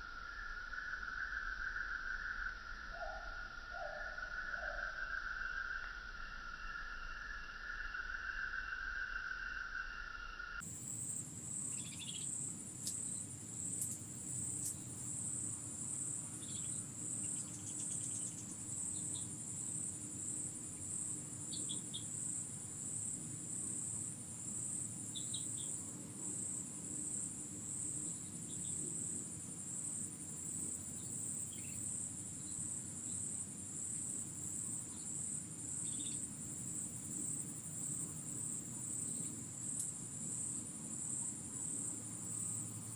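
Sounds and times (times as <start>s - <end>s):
insects trilling: 0.0s - 42.9s.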